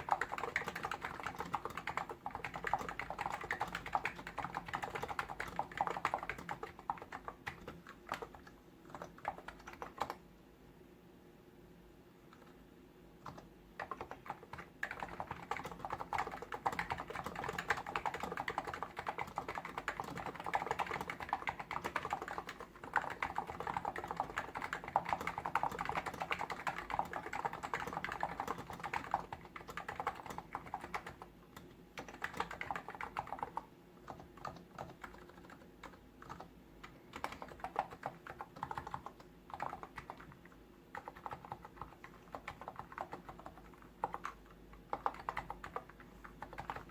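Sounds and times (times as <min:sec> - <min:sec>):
fast keyboard typing: 0:00.0 - 0:10.2, 0:13.2 - 0:46.9.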